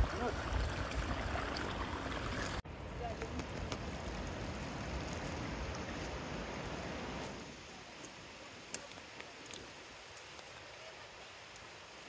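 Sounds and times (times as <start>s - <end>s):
distant waterfall rushing: 0.0s - 12.0s.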